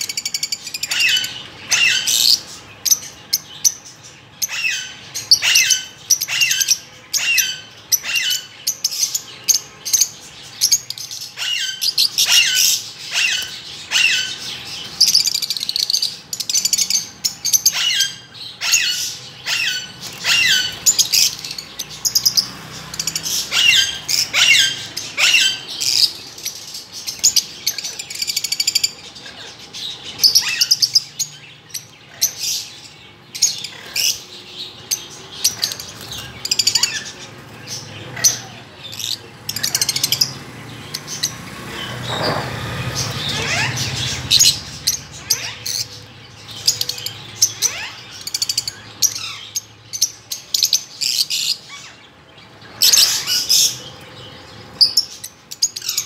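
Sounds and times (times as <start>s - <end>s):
lovebirds chirping: 0.0s - 56.0s
rapid bird twittering: 0.0s - 56.0s.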